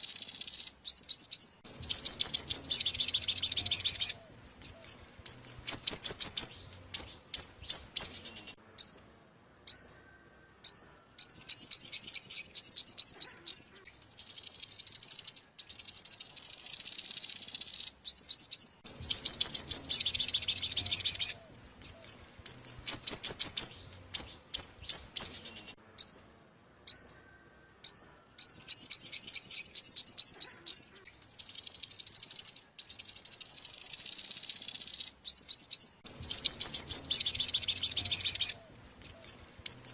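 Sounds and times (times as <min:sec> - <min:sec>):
sunbird singing trills: 0:00.0 - 0:39.9.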